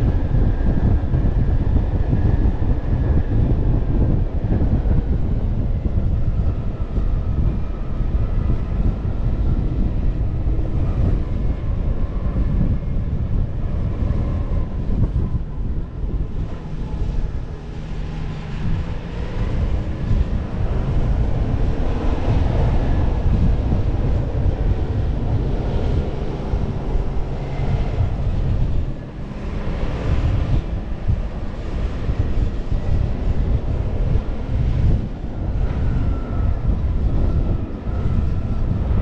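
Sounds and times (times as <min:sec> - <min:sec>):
engine and road rumble: 0:00.0 - 0:39.0
wind buffeting microphone: 0:00.0 - 0:39.0.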